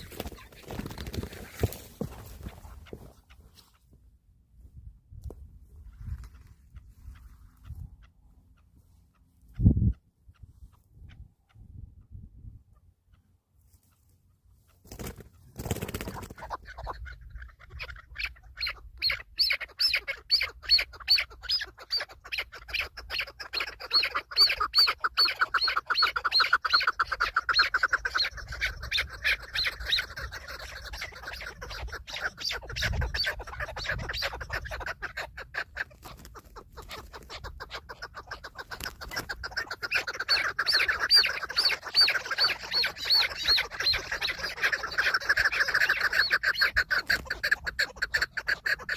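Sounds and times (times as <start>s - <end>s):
partridge clucking calls: 0.0s - 3.8s, 12.7s - 48.9s.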